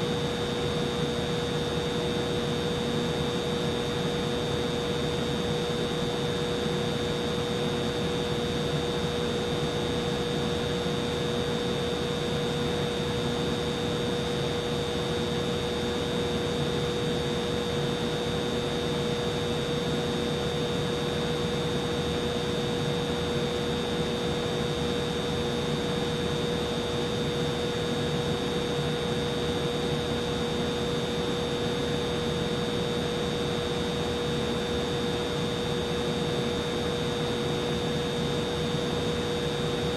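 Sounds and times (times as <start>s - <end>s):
humidifier motor hum: 0.0s - 39.9s.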